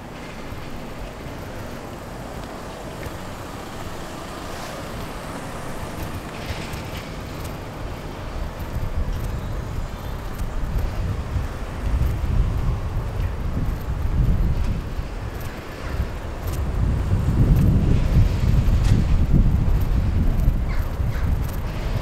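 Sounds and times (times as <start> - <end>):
distant traffic hum: 0.0 - 22.0
wind buffeting microphone: 0.0 - 22.0.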